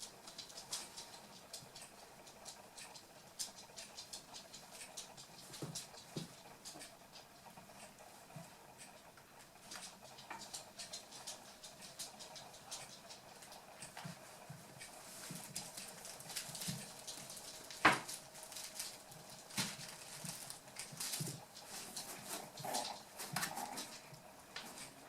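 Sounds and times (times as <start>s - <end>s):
puppy paws pattering: 0.0s - 25.0s.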